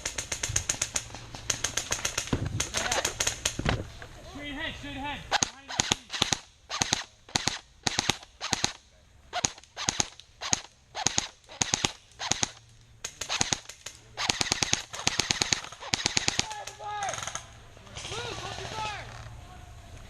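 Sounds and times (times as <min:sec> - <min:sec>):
airsoft guns firing: 0:00.0 - 0:03.7, 0:05.3 - 0:18.8.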